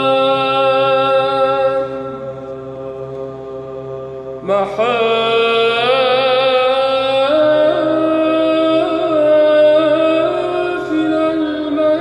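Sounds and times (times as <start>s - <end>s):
held vocal drone: 0.0s - 12.0s
man chanting melisma: 0.0s - 12.0s.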